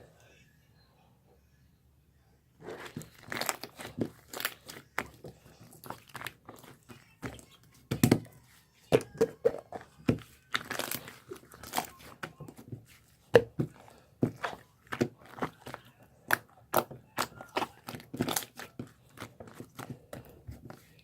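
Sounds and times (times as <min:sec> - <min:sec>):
crinkling and crackling: 0:02.6 - 0:21.0.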